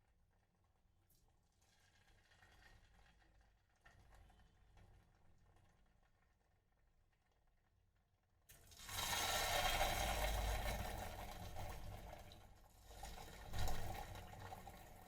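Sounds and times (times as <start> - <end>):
battered food frying in oil: 0.0 - 15.0.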